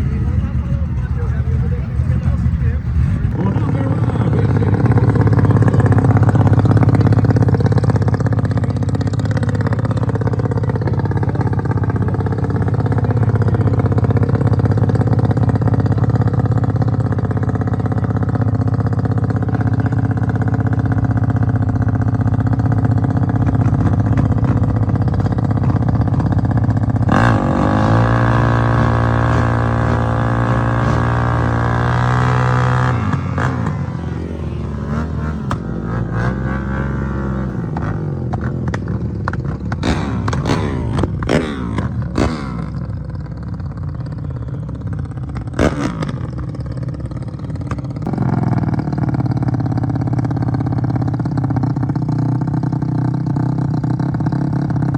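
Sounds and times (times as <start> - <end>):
motorcycle engine accelerating: 0.0 - 54.9
motorcycle engines running loud: 0.0 - 54.9.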